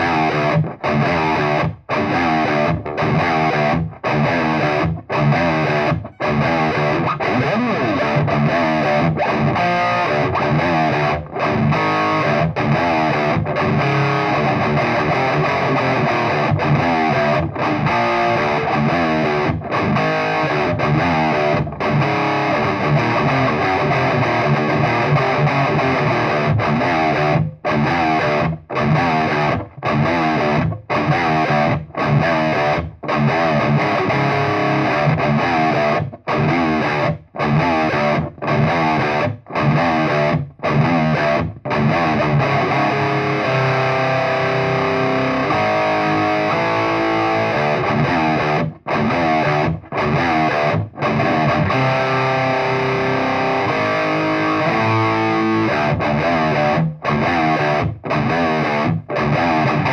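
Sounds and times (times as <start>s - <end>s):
distorted electric guitar riff: 0.0s - 59.9s.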